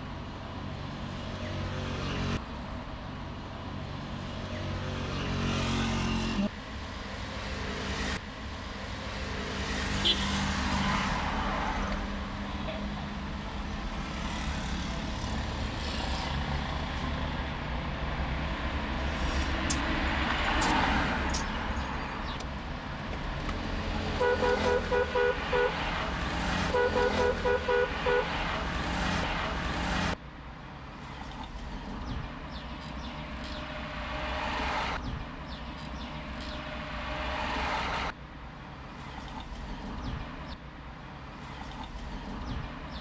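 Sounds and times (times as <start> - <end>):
street traffic: 0.0 - 43.0.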